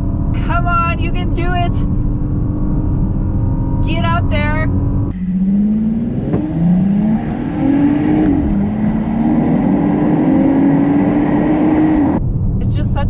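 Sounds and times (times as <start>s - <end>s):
car engine at full throttle: 1.9s - 12.8s.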